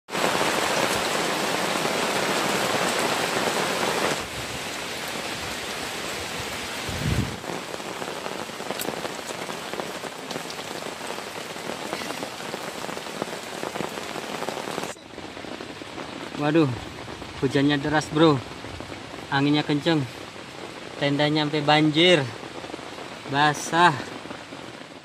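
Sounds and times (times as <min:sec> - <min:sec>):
heavy rain pouring: 0:00.1 - 0:25.0.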